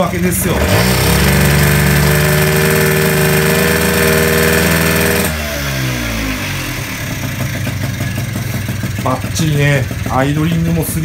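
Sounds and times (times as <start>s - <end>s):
moped engine revving and idling: 0.0s - 11.0s.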